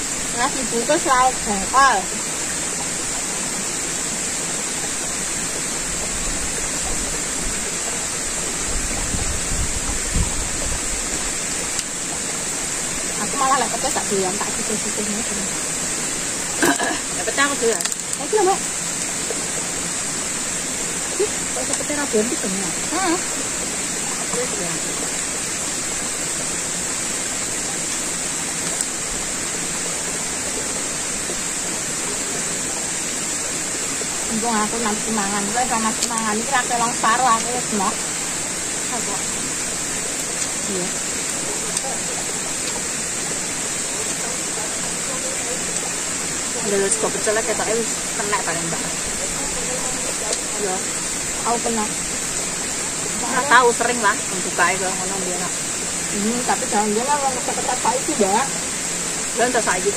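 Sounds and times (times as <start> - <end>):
stream water over rocks: 0.0 - 59.9.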